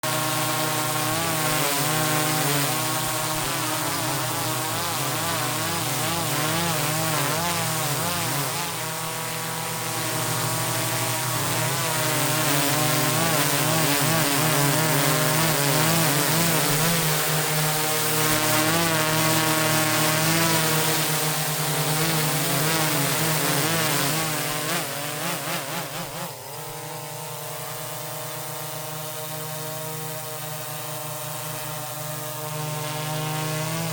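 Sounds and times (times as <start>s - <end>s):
drone motors and propellers: 0.0s - 33.9s.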